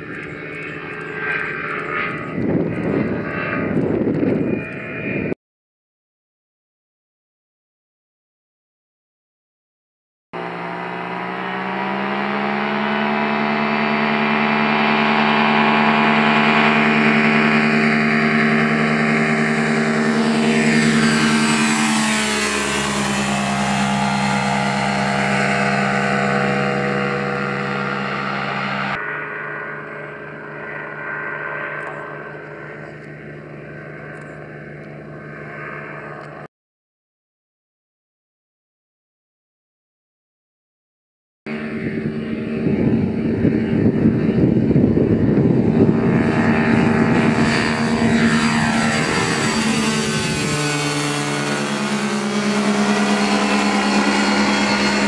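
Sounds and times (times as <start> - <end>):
ultralight engine and propeller: 0.0 - 5.4, 10.4 - 36.5, 41.5 - 55.0.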